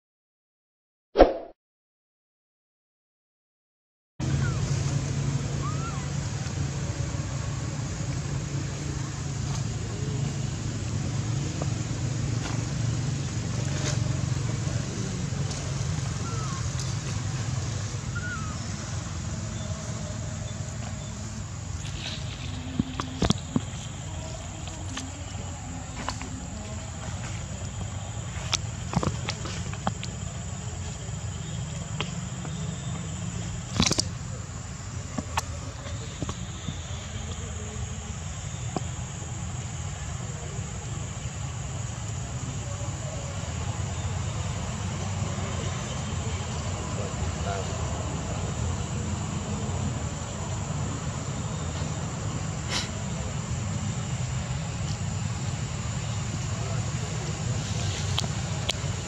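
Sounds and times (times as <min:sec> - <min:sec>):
low rumble with hiss: 0:04.2 - 0:59.0.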